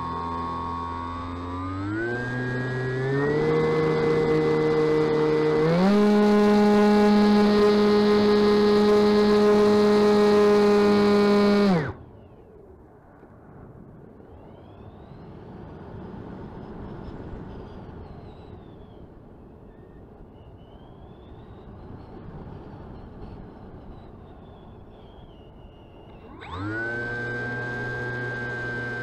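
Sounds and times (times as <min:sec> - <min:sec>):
electric motor and propeller whine: 0:00.0 - 0:29.0
faint whine rising and falling: 0:00.0 - 0:29.0.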